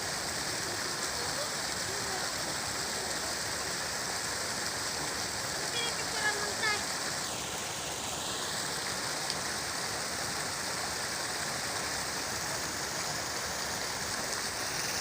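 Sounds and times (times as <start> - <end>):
falling water rushing and splashing: 0.0 - 15.0.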